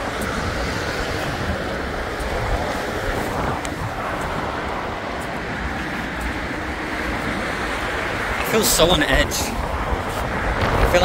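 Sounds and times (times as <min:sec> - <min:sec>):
busy road traffic: 0:00.0 - 0:11.0
wind on microphone: 0:00.0 - 0:11.0.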